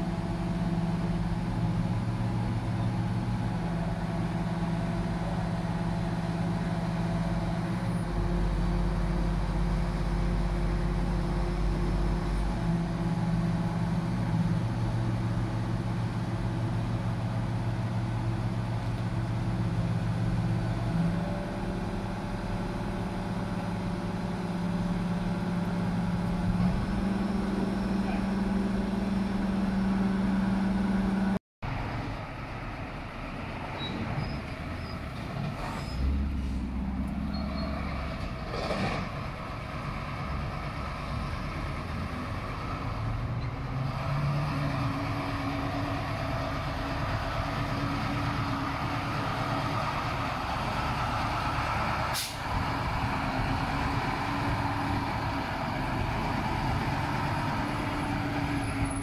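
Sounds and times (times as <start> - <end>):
crane diesel engine running: 0.0 - 59.0.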